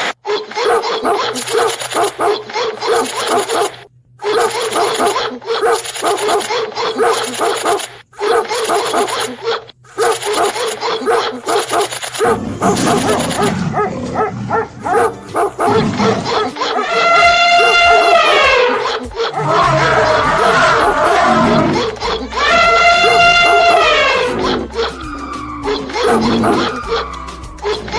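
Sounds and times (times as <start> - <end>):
dogs barking and yelping: 0.0 - 27.9.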